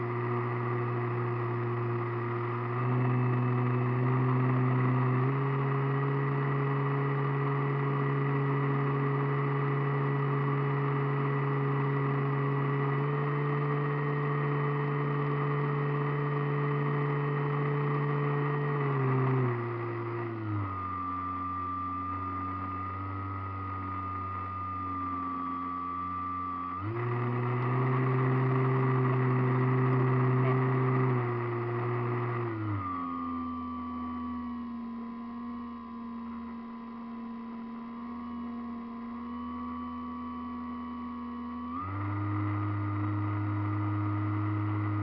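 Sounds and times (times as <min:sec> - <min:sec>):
model plane motor and propeller: 0:00.0 - 0:45.0
thin high whine: 0:00.0 - 0:45.0.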